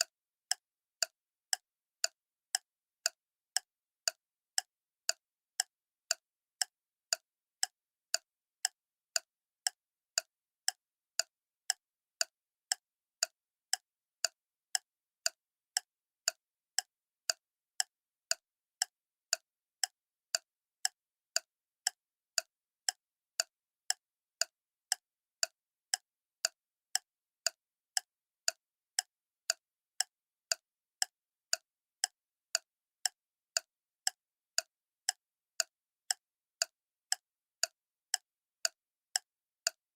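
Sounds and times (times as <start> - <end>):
clock ticking: 0.0 - 39.8.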